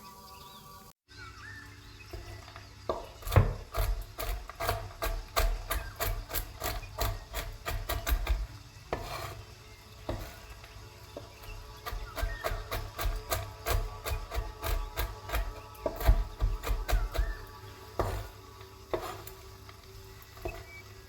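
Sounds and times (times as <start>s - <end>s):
rasping strokes with dull knocks: 2.1s - 21.0s.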